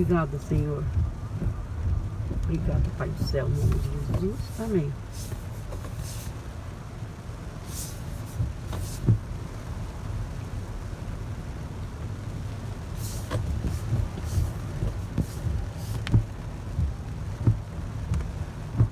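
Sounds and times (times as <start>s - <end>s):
heavy rain on a street: 0.0s - 18.9s
low rumble: 0.0s - 18.9s
water running along curbs: 0.0s - 18.9s.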